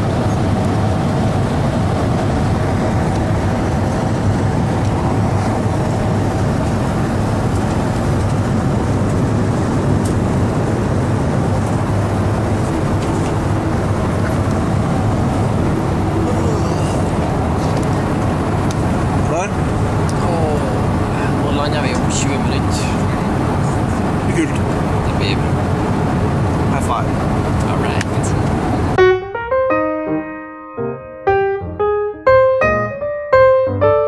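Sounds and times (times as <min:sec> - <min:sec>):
jet engine drone: 0:00.0 - 0:29.5.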